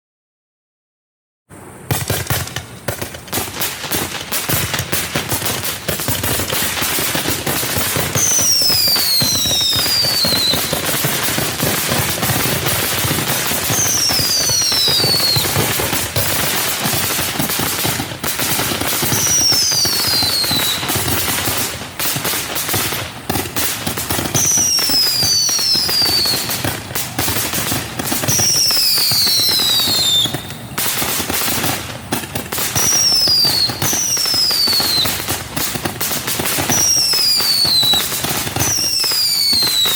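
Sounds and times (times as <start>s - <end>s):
falling firework whistle: 1.5s - 39.9s
firework crackling and reports: 1.5s - 39.9s.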